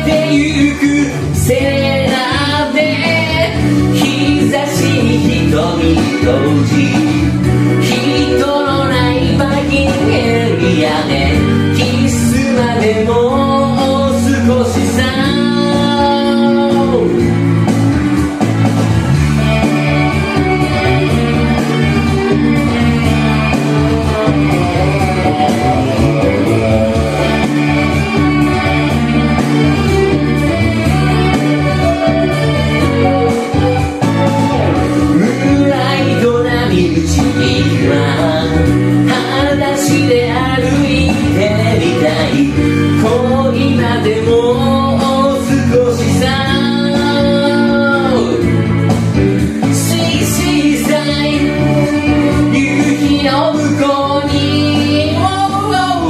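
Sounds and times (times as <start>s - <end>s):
pop-rock song with guitar and bass: 0.0s - 56.0s.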